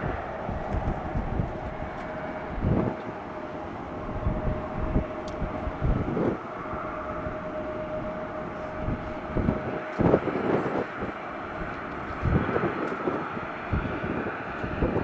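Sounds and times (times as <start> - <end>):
distant jet engines whining: 0.0 - 15.0
wind buffeting microphone: 0.0 - 15.0.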